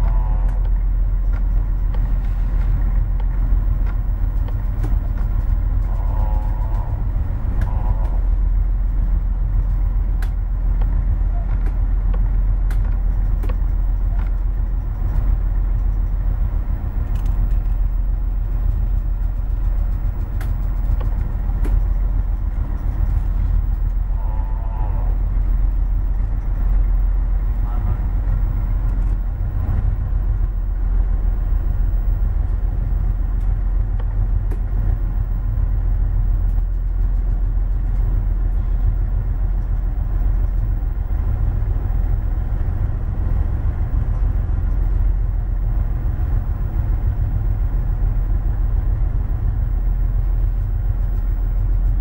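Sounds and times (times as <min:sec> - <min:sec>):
ship engine rumbling: 0:00.0 - 0:52.0.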